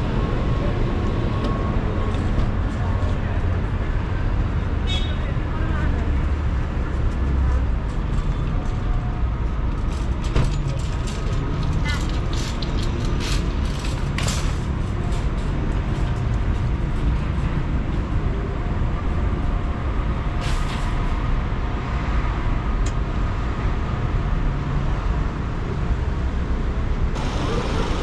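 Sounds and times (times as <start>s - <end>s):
city street traffic rumble: 0.0s - 28.0s.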